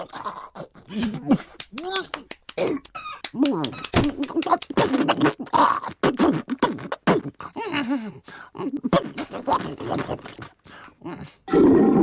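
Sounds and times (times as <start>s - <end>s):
cartoon penguin gibberish voice: 0.0s - 1.4s, 2.6s - 11.6s.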